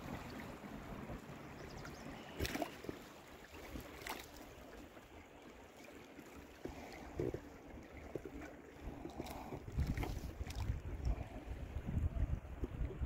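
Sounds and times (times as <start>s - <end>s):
water lapping against boat: 0.0s - 13.0s.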